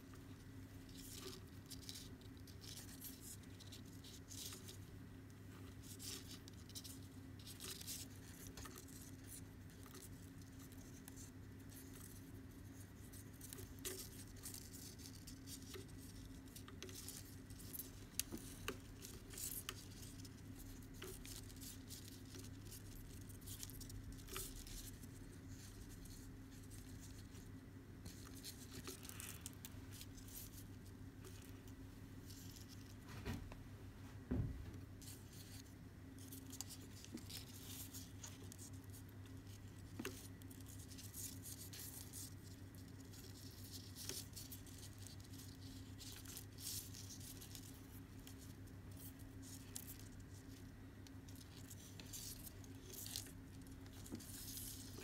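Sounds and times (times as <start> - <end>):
cord rustling and ticking: 0.0 - 55.0.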